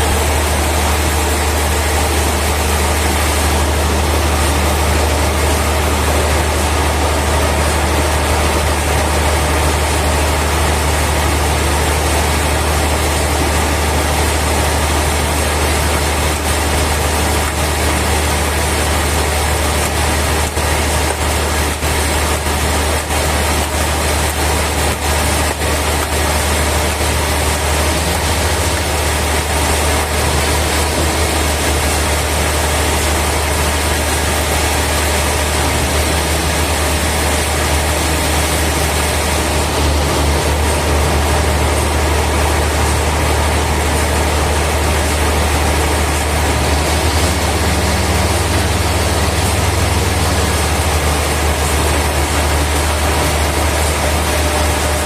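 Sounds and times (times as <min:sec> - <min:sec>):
heavy machinery humming: 0:00.0 - 0:55.0.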